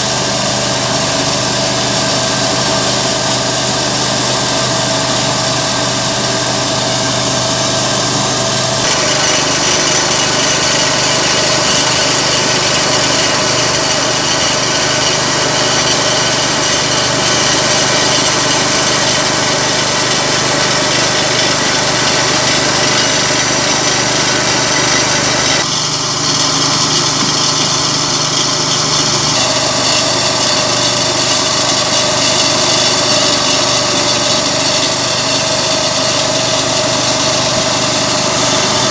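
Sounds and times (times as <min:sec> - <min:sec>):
sawmill engine running: 0:00.0 - 0:38.9
saw cutting hiss: 0:05.2 - 0:38.9.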